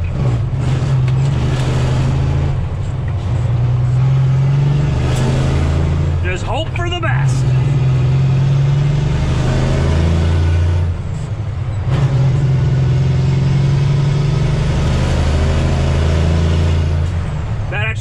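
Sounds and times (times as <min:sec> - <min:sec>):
diesel truck engine pulling hard: 0:00.0 - 0:18.0.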